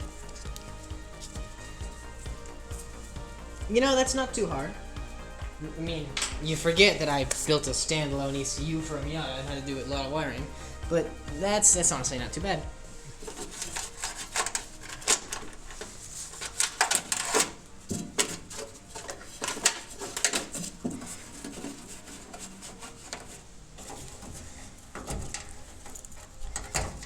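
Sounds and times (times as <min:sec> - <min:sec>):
wiring harness clicking and rattling: 0:00.0 - 0:27.0.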